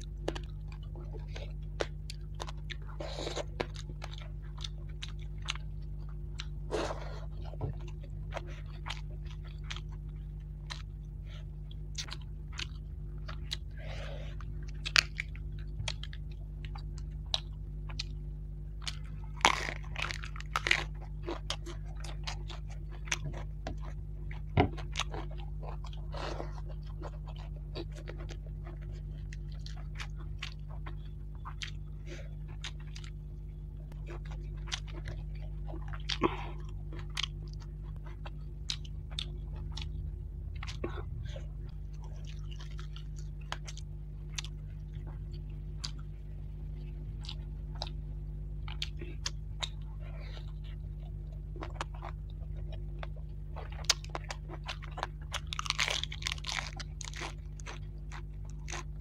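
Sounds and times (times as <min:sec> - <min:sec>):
person chewing and crunching food: 0:00.0 - 0:59.0
steady low hum: 0:00.0 - 0:59.0.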